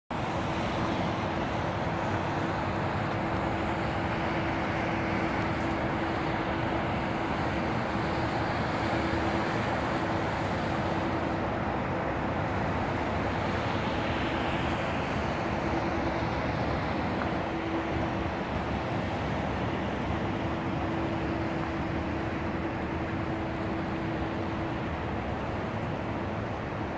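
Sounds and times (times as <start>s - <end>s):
constant low hum: 0.1s - 26.9s
distant city traffic: 0.1s - 26.9s.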